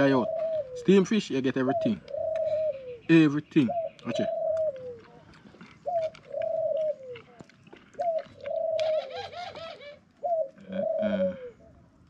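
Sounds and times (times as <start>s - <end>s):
dove cooing: 0.0s - 11.8s.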